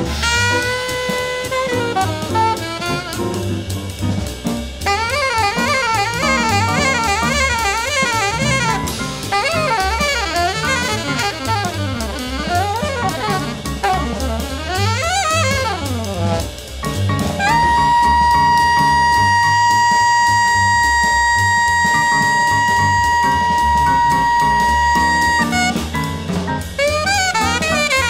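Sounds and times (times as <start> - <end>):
drums and bass rhythm section: 0.0 - 28.0
jazz alto saxophone: 0.0 - 28.0.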